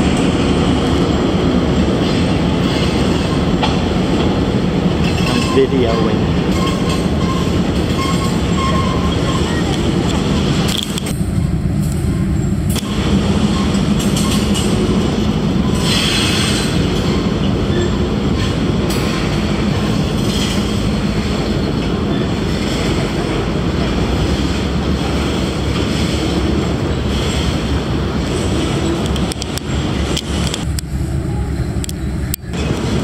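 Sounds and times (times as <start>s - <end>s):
freight train wheels clattering: 0.0s - 33.0s.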